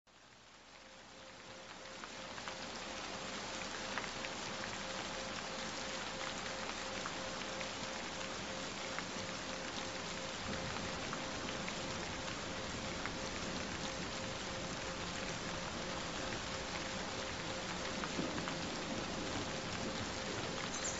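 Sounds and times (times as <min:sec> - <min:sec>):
steady rain falling: 0:00.1 - 0:20.9
raindrops ticking: 0:00.8 - 0:20.9.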